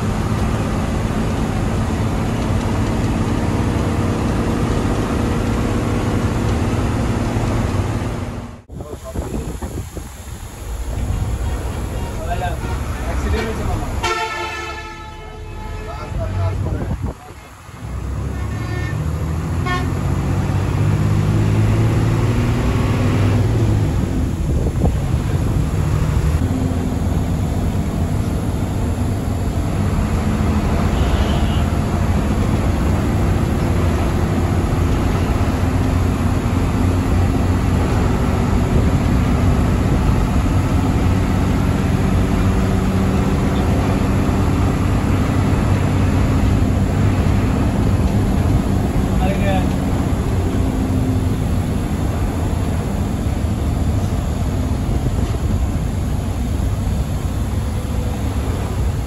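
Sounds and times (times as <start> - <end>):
bus diesel engine drone: 0.0 - 59.0
road and tyre noise: 0.0 - 59.0.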